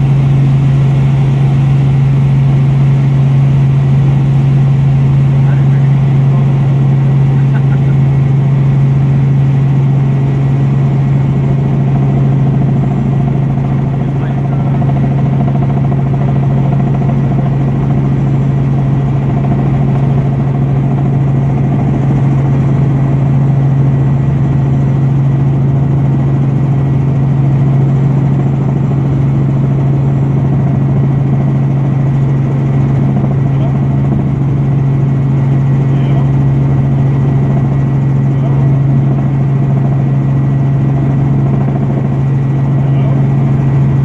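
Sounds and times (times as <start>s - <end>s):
helicopter engine and rotors: 0.0s - 44.0s.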